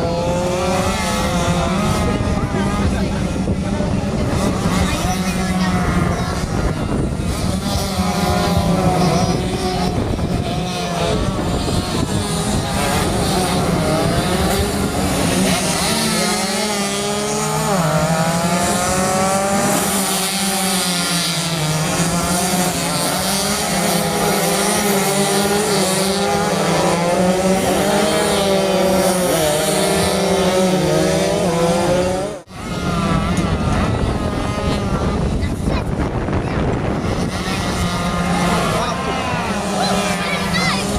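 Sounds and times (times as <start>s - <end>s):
motorcycles revving at high revs: 0.0s - 40.9s.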